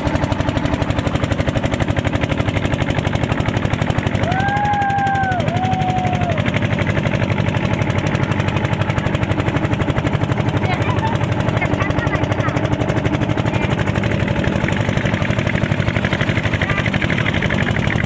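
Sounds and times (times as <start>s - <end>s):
motorboat engine chugging: 0.0s - 18.0s.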